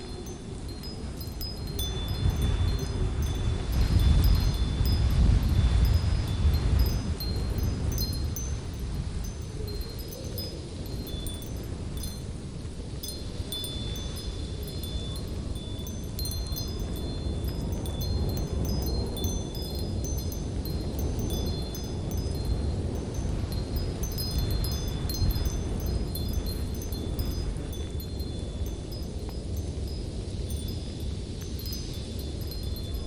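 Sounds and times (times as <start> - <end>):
low wind rumble: 0.0 - 33.0
metal wind chimes tinkling: 0.0 - 33.0.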